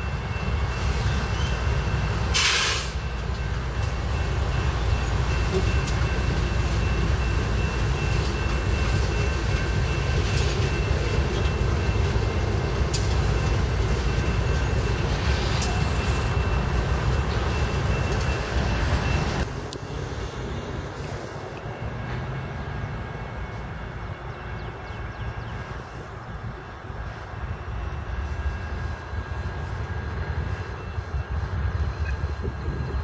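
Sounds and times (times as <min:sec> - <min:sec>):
diesel locomotives rumbling: 0:00.0 - 0:33.0
train cars rolling on rails: 0:00.0 - 0:33.0.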